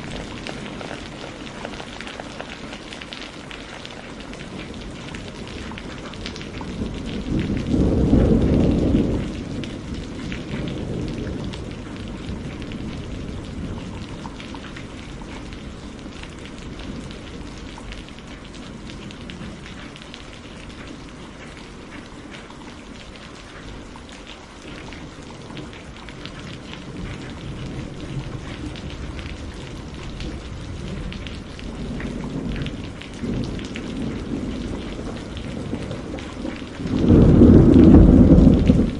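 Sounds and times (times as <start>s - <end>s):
thunder rumbling: 0.0s - 19.9s, 24.7s - 38.9s
steady rain: 0.0s - 38.9s.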